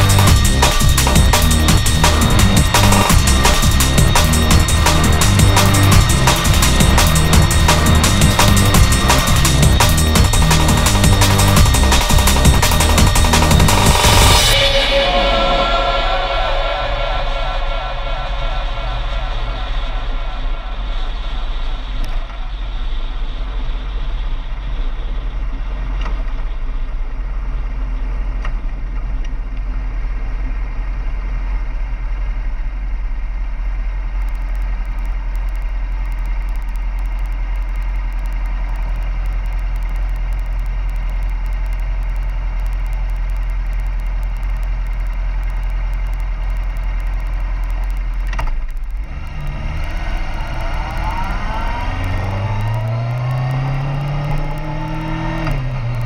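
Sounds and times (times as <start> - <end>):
engine accelerating: 0.0 - 26.5, 33.6 - 56.0
wind and road noise: 0.0 - 56.0.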